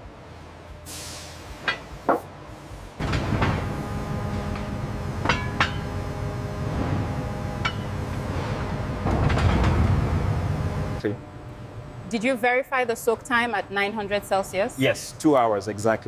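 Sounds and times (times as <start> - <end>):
steady industrial hum: 0.0 - 16.0.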